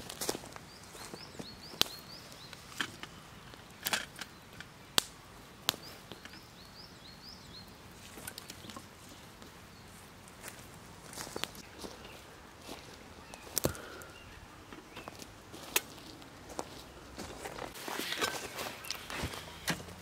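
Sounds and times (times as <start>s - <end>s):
campfire crackling and popping: 0.0s - 11.9s, 14.8s - 20.0s
bird chirping: 0.6s - 5.0s, 5.7s - 10.0s, 11.1s - 20.0s.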